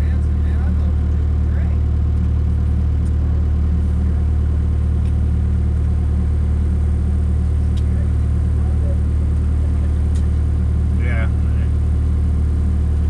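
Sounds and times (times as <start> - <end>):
heavy machinery engine humming: 0.0 - 13.0.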